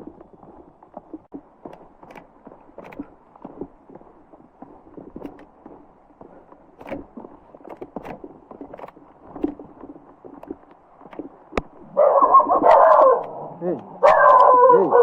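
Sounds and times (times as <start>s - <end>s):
footsteps on trail: 0.0s - 15.0s.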